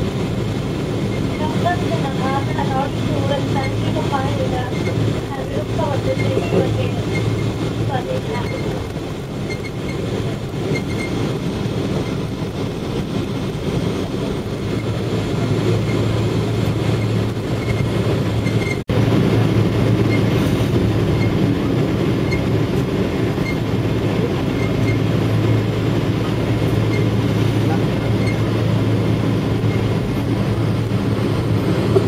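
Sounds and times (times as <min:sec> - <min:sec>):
aircraft rolling on runway: 0:00.0 - 0:32.0
jet engines: 0:00.0 - 0:32.0.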